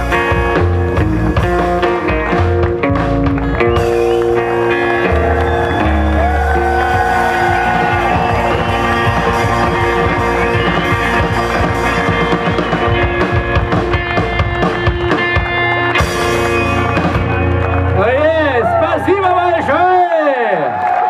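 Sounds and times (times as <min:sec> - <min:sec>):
sliding guitar notes: 0:00.0 - 0:18.6
drums: 0:00.0 - 0:19.8
electric and acoustic guitars: 0:00.0 - 0:19.8
upright bass: 0:00.0 - 0:19.8.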